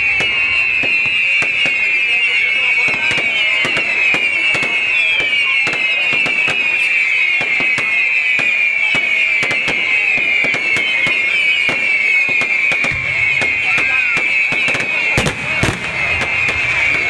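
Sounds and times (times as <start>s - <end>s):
fireworks cracking and banging: 0.0s - 17.0s
fireworks whistling: 0.0s - 17.0s.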